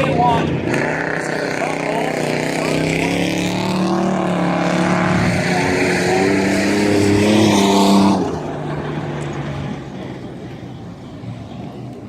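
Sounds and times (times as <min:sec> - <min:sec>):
race truck engines at speed: 0:00.0 - 0:12.0.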